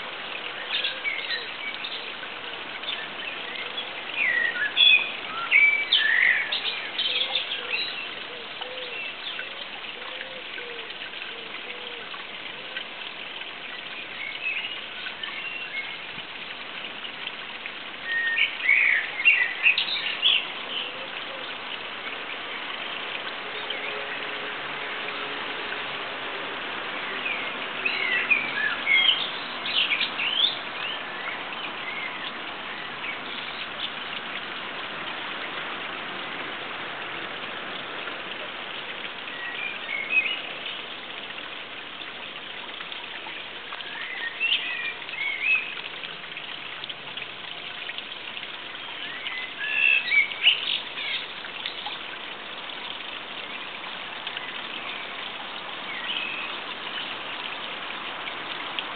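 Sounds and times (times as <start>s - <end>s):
steady outdoor hiss: 0.0s - 58.9s.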